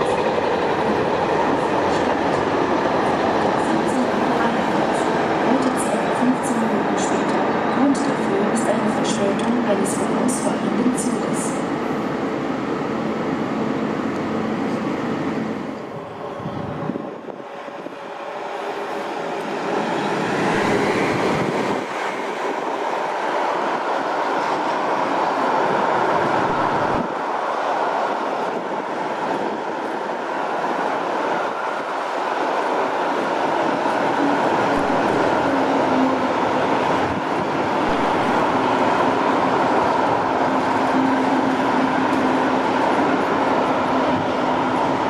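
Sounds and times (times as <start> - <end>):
train rolling on tracks: 0.0 - 45.0.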